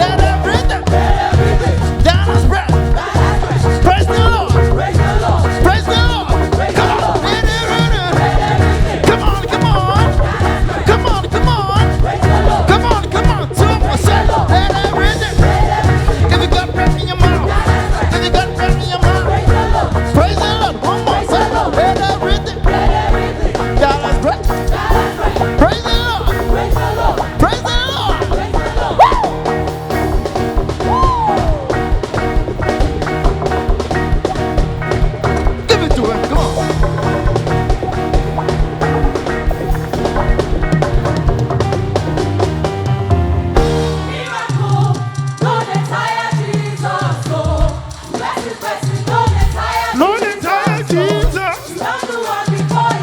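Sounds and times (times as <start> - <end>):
vocal group singing in harmony: 0.0 - 41.7, 43.6 - 53.0
bass guitar: 0.0 - 44.3
sliding rising and falling notes: 0.0 - 44.8
drum beat: 0.0 - 53.0
live band playing praise music: 0.0 - 53.0.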